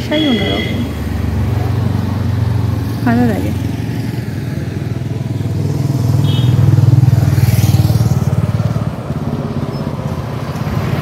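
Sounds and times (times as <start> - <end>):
motorcycle passing: 0.0 - 11.0.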